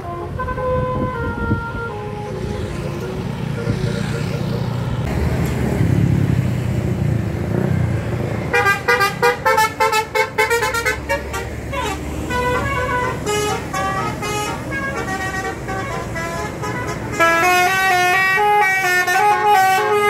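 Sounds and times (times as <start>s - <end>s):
musical bus horn: 0.0s - 4.6s, 8.5s - 20.0s
bus engine rumbling: 0.0s - 20.0s.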